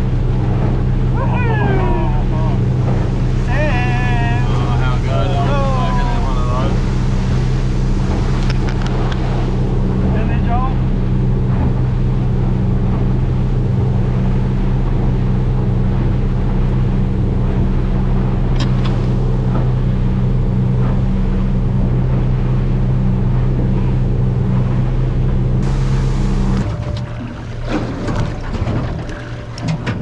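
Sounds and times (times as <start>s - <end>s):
boat engine cruising: 0.0s - 30.0s
water noise: 0.0s - 30.0s
wind: 0.0s - 30.0s.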